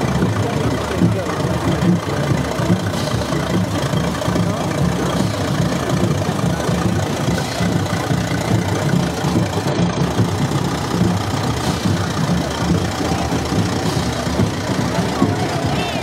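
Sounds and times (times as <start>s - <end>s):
tractor engine running at low revs: 0.0s - 16.0s.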